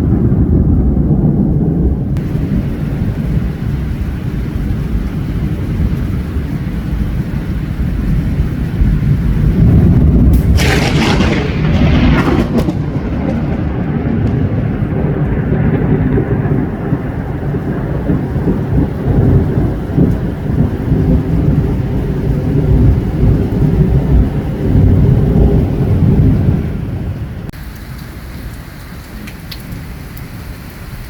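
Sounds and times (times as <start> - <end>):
thunder crack and rumble: 0.0 - 27.6.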